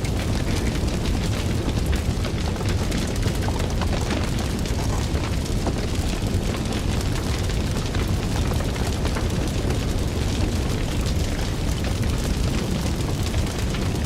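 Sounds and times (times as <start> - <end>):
fire rumbling and crackling: 0.0 - 14.0.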